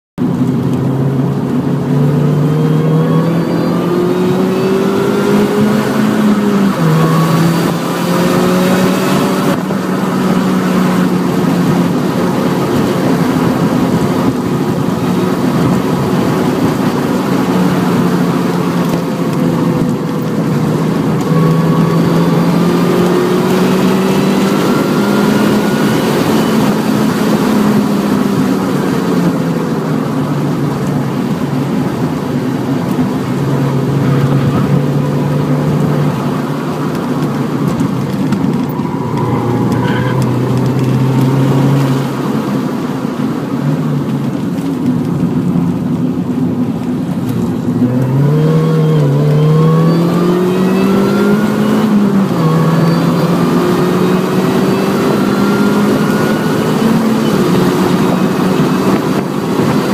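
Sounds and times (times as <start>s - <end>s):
car engine accelerating: 0.2s - 59.9s
tyre and road noise: 0.2s - 59.9s.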